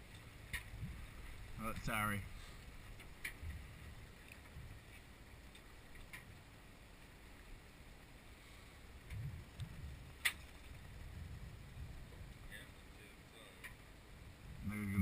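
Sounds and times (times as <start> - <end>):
faint low rumble of a boat: 0.0 - 15.0.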